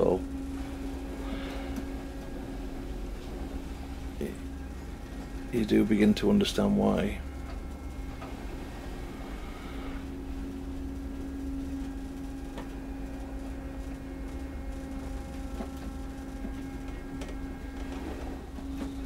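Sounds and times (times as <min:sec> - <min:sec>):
ship machinery rumble and hum: 0:00.0 - 0:19.0.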